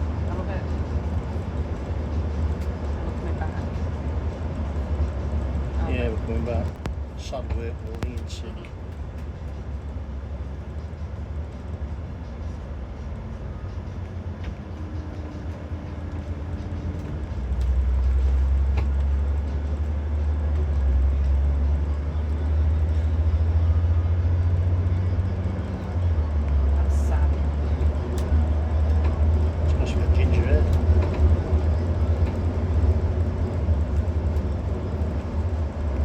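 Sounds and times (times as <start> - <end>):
coach engine and tyres rumbling: 0.0 - 36.0.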